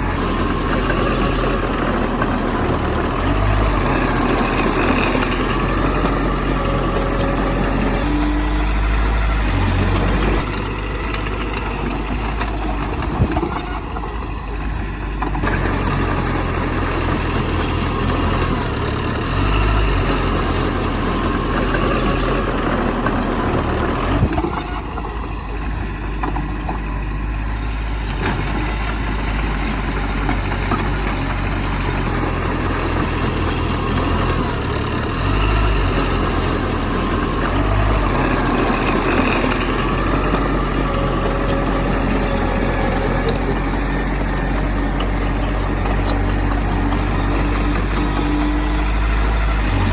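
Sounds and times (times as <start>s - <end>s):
heavy diesel engines running: 0.0s - 49.9s.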